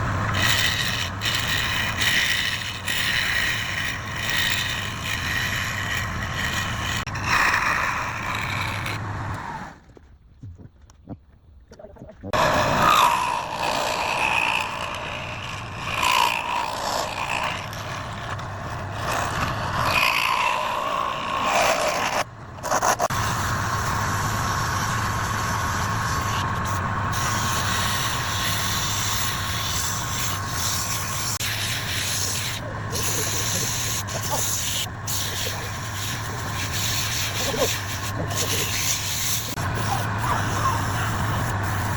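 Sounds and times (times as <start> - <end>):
wood lathe motor hum: 0.0 - 9.4, 12.4 - 22.2, 23.1 - 41.9
tool rubbing spinning workpiece: 0.0 - 9.8, 12.3 - 41.9.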